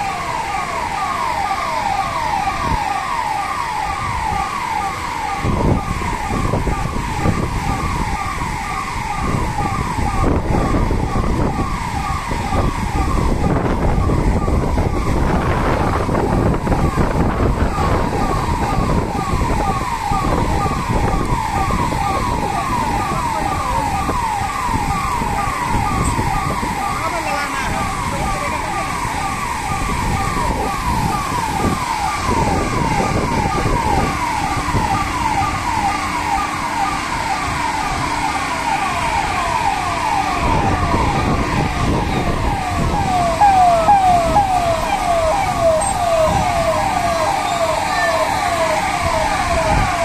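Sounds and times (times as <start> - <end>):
electronic siren sweeping: 0.0 - 50.0
water jets rushing from hoses: 0.0 - 50.0.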